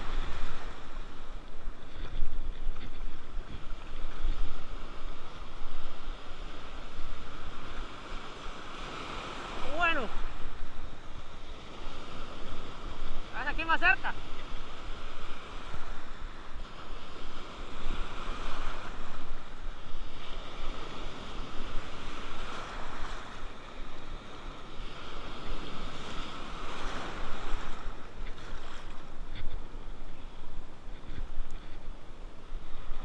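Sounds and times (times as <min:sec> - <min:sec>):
surf washing and breaking: 0:00.0 - 0:33.0.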